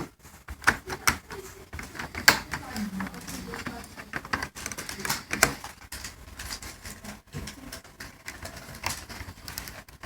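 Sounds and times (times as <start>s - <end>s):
laptop parts clicking and tapping: 0.0s - 10.0s.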